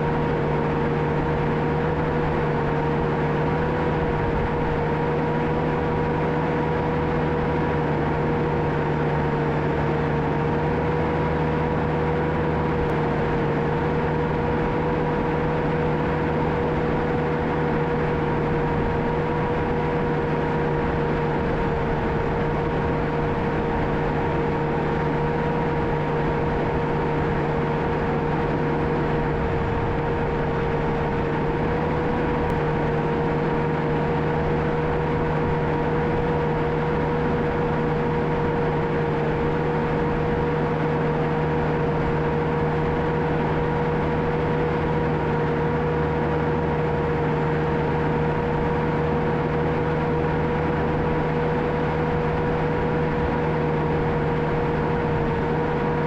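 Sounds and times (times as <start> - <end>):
constant high whine: 0.0 - 56.0
diesel engine running: 0.0 - 56.0.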